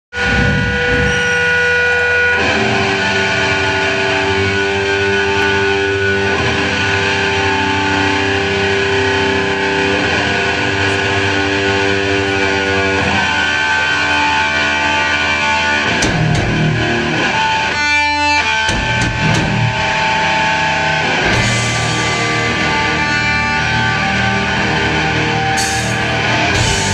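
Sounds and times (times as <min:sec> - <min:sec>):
heavy metal band playing live: 0:00.1 - 0:26.9.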